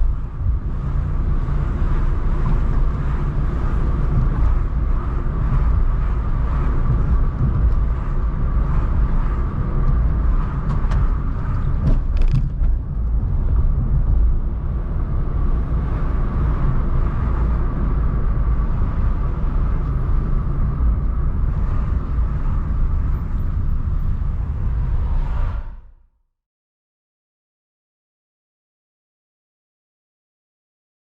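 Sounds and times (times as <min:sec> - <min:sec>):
car engine and tyre rumble: 0:00.0 - 0:26.1.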